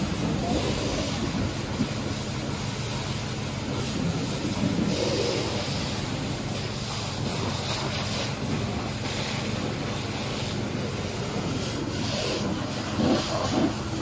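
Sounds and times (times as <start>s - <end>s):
fire hose spraying water: 0.0s - 14.0s.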